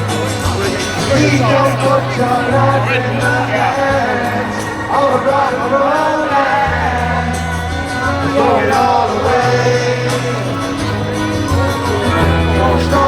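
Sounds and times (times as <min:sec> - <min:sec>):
held bass notes: 0:00.0 - 0:13.0
rock band playing live: 0:00.0 - 0:13.0
person singing: 0:00.6 - 0:13.0.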